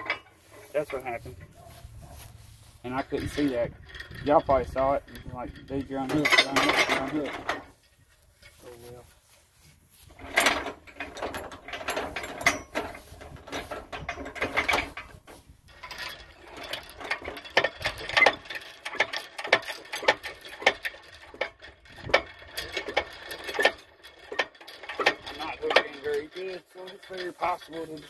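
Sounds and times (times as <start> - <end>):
metal crane clicking and rattling: 0.0 - 9.1, 9.9 - 28.0.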